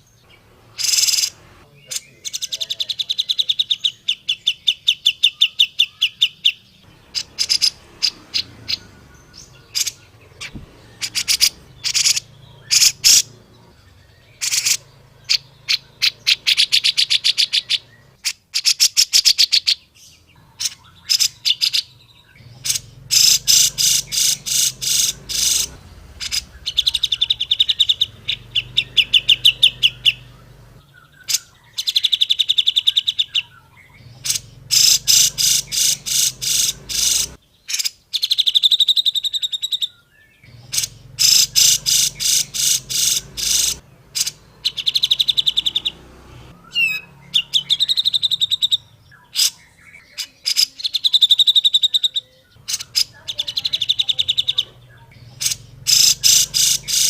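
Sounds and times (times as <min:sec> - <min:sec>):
bird singing chattering trills: 0:00.0 - 0:57.0.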